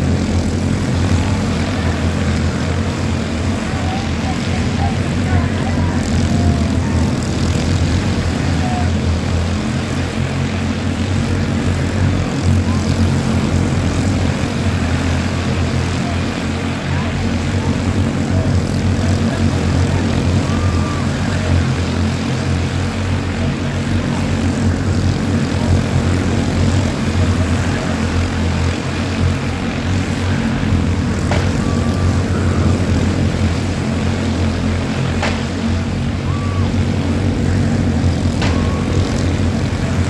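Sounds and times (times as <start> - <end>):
small race car engines: 0.0 - 40.0.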